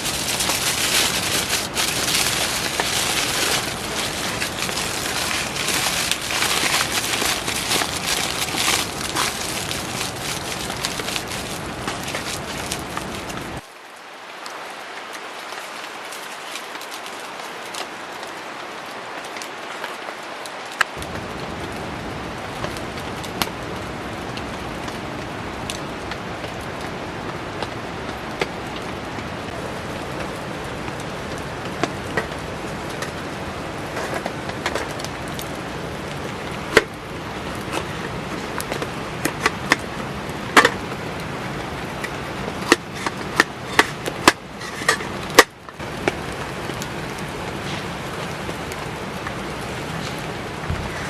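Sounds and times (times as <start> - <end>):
heavy rain: 0.0 - 51.0.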